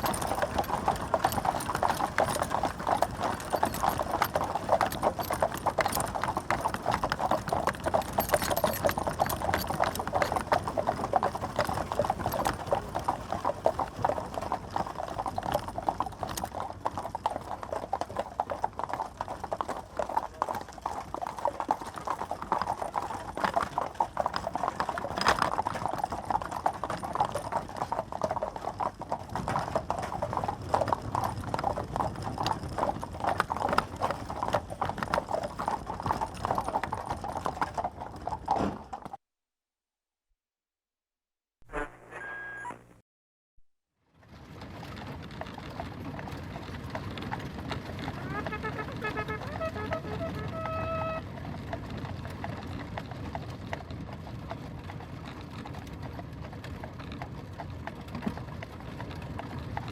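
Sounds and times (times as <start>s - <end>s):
horse hooves clip-clopping: 0.0s - 39.2s, 44.3s - 59.9s.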